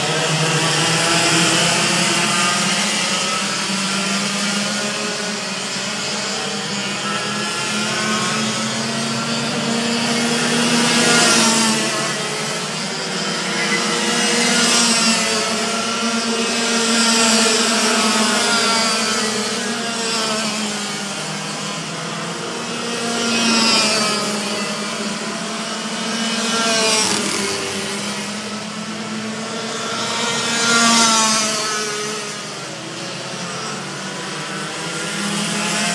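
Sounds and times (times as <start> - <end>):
racing kart engines buzzing: 0.0 - 35.9.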